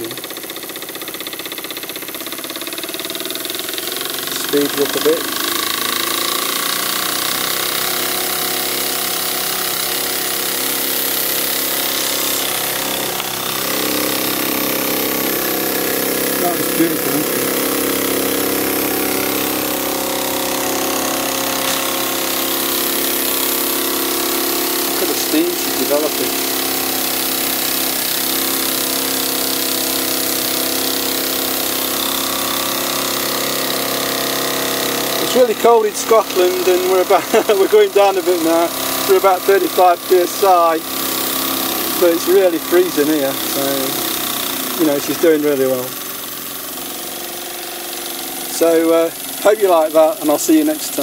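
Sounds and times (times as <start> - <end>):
model steam engine running: 0.0 - 51.0.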